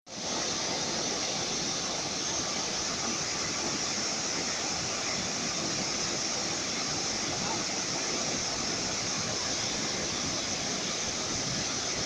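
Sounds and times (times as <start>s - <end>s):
water rushing over rapids: 0.1s - 12.0s.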